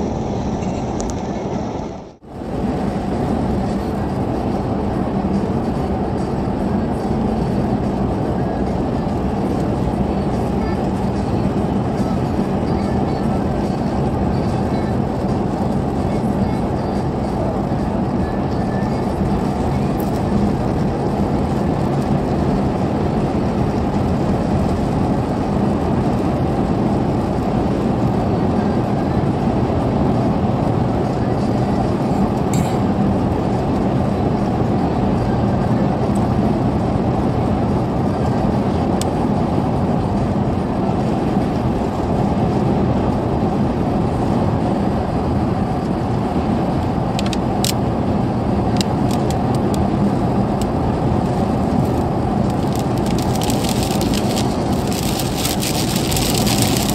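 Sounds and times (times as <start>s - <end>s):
car road and tyre noise: 0.0s - 56.9s.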